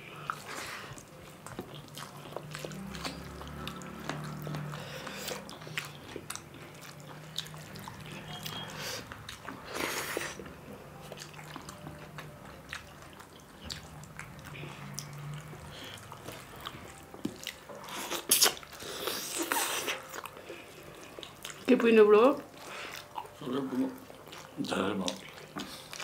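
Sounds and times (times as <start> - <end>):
moist chewing and lip smacks: 0.2 - 21.7, 22.4 - 26.0.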